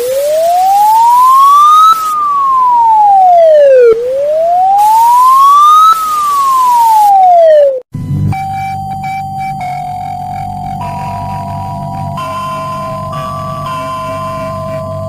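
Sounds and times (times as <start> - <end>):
wailing alarm siren: 0.0 - 15.0.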